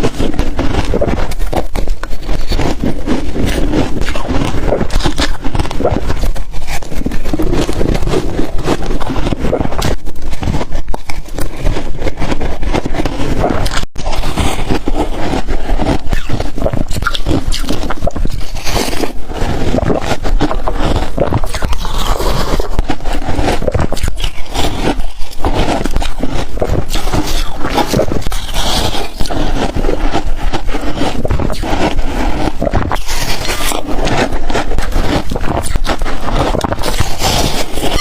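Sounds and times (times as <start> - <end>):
ice crunching between teeth: 0.0 - 38.0.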